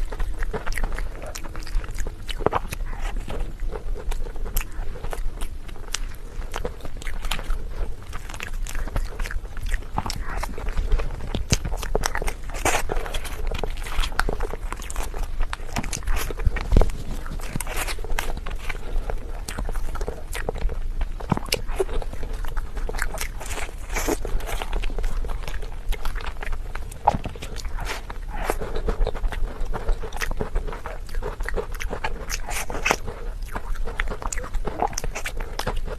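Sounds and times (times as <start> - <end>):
biting and chewing food: 0.0 - 35.9.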